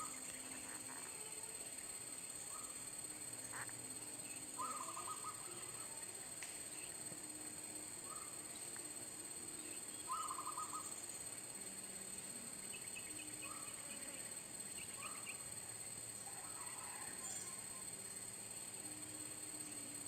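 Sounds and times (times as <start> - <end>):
insect drone: 0.0 - 20.0.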